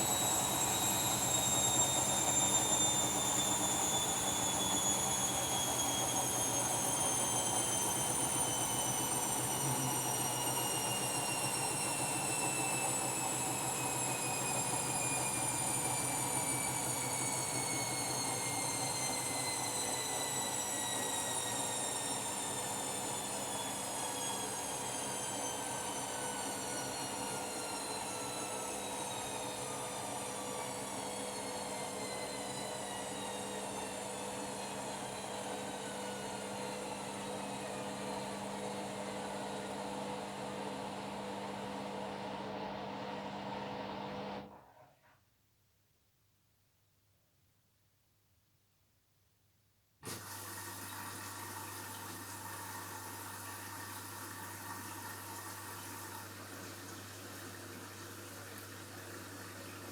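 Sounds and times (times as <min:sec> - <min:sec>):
washing machine motor whine: 0:00.0 - 0:44.6, 0:50.0 - 0:59.9.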